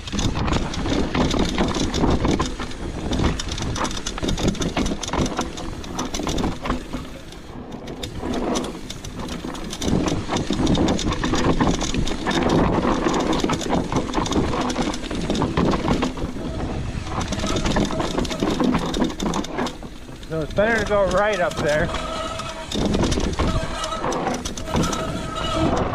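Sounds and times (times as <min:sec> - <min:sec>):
bike rattling clicks: 0:00.0 - 0:25.9
tyres rumbling over dirt and rocks: 0:00.0 - 0:25.9.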